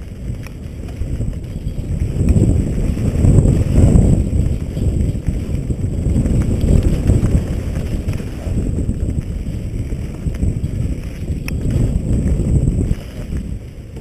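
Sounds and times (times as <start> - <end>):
bike rattling over dirt trail: 0.0 - 14.0
wind buffeting microphone: 0.0 - 14.0.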